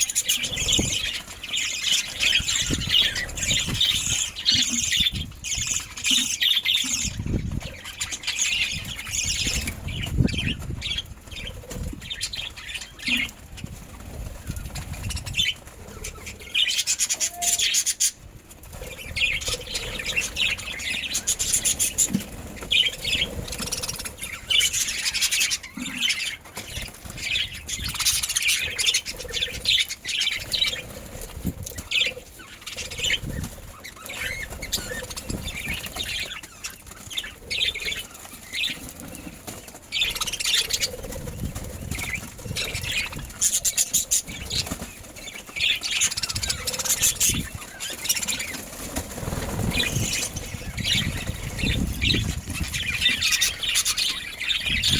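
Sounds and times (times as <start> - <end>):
budgerigars chirping and chattering: 0.0 - 54.9
wings flapping: 0.0 - 54.9.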